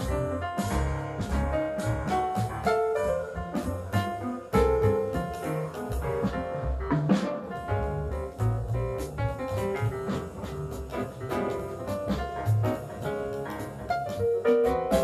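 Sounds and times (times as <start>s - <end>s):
acoustic grand piano: 0.0s - 15.0s
double bass: 0.0s - 15.0s
drums: 0.0s - 15.0s.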